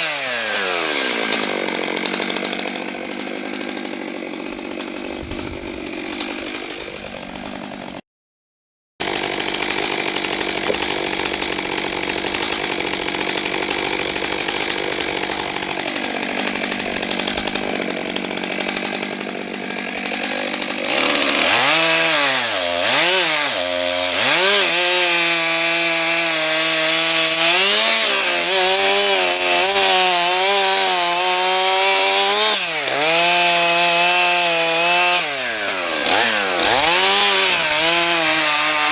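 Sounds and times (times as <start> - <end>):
chainsaw cutting wood: 0.0 - 8.0, 9.0 - 38.9.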